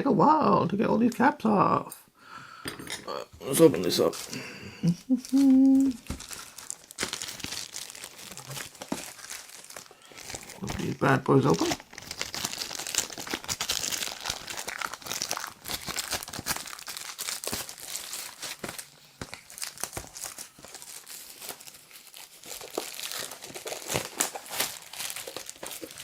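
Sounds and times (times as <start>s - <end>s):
plastic packaging crinkling and tearing: 3.7s - 4.4s, 5.1s - 26.0s.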